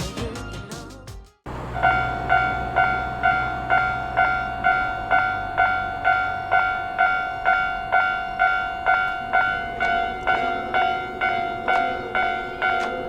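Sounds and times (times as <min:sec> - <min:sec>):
level crossing warning bell: 0:01.6 - 0:13.0.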